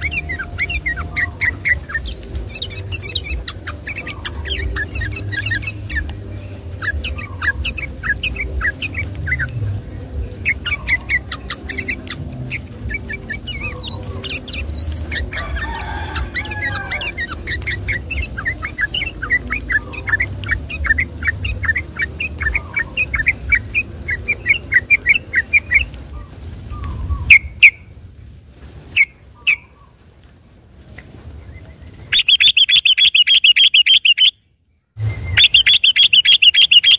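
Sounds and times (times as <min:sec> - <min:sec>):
bulbul chirping song: 0:00.0 - 0:28.0, 0:29.0 - 0:29.9, 0:31.4 - 0:36.9
low rumble: 0:00.0 - 0:32.1, 0:34.5 - 0:35.6.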